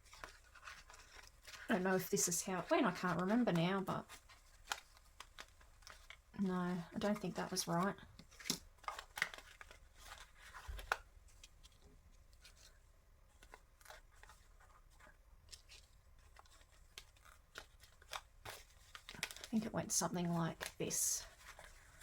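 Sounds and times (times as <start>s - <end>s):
paper rustling and tapping: 0.0s - 1.8s, 2.5s - 22.0s.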